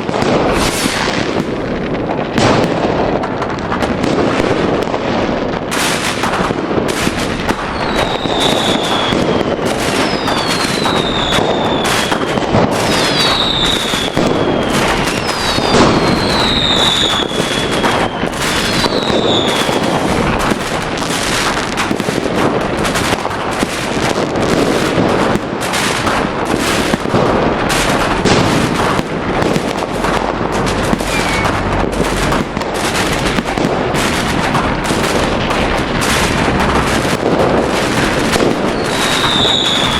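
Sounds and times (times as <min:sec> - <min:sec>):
fireworks bangs and crackling: 0:00.0 - 0:39.9
whistling fireworks: 0:00.0 - 0:39.9.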